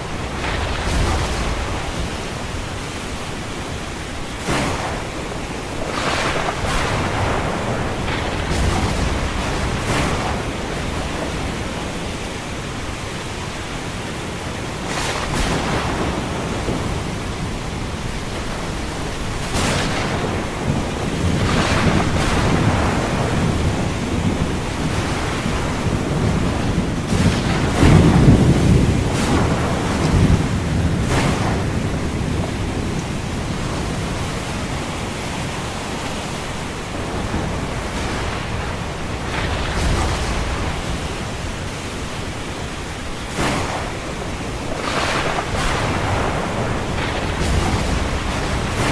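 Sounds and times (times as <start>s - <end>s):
rain: 0.0s - 48.9s
surf: 0.0s - 48.9s
thunder rumbling: 0.0s - 48.9s
waves breaking: 0.0s - 48.9s.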